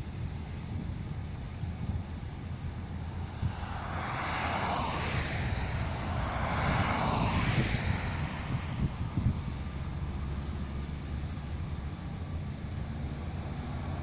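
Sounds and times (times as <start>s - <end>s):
vehicle approaching with rushing noise: 0.0s - 14.0s
wind rumble on microphone: 0.0s - 14.0s.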